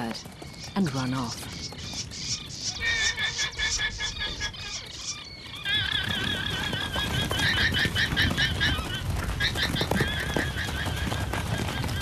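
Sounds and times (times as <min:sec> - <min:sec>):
guanacos shrill alarm calls: 0:01.6 - 0:11.3.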